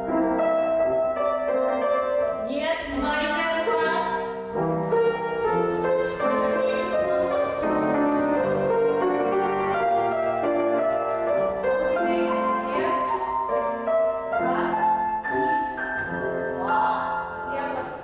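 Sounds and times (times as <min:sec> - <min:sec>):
lively piano tune: 0:00.0 - 0:18.0.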